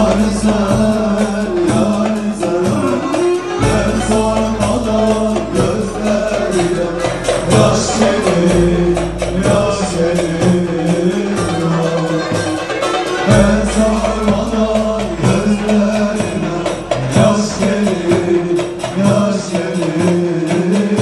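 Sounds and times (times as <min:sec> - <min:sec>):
amplified folk band: 0:00.0 - 0:21.0
men singing into microphones: 0:00.0 - 0:21.0.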